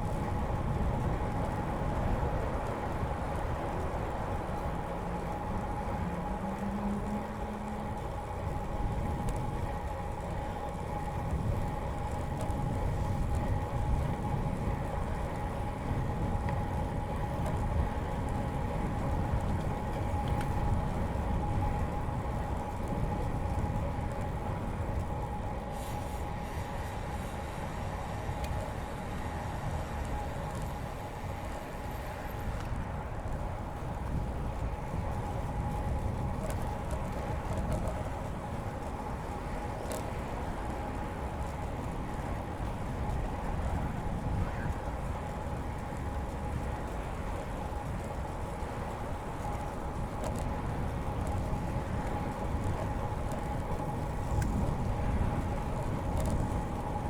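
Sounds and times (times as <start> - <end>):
bicycle tyres rolling on pavement: 0.0 - 57.0
steady humming tone: 0.0 - 57.0
wind rumbling on microphone: 0.0 - 57.0.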